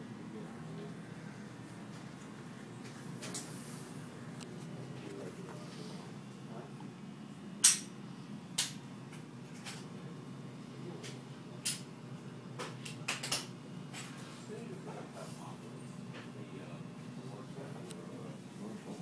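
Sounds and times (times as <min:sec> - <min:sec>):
low room noise murmur: 0:00.0 - 0:19.0.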